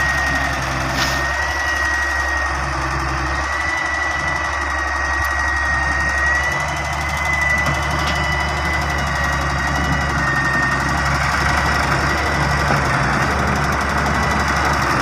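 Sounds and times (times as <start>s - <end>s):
high whine: 0.0s - 12.8s
diesel engine running: 0.0s - 15.0s.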